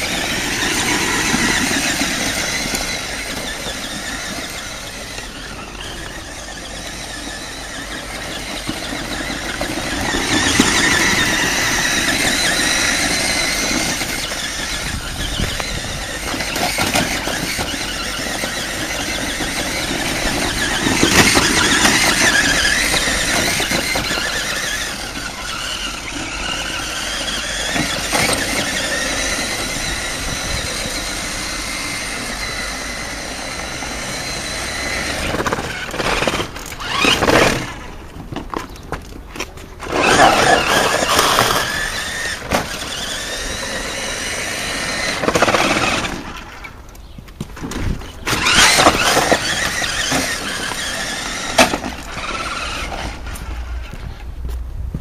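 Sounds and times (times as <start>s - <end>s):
toy truck electric motor whining: 0.0s - 47.0s, 47.6s - 54.1s.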